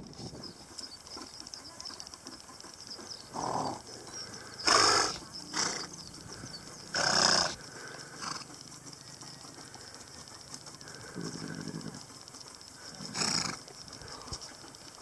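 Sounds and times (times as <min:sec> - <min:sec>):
horses snorting: 0:00.0 - 0:15.0.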